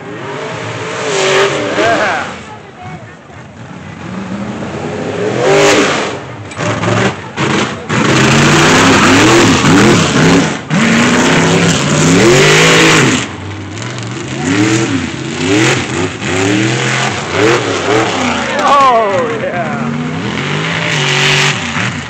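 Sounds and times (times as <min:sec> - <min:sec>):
buggy engine revving: 0:00.0 - 0:22.0.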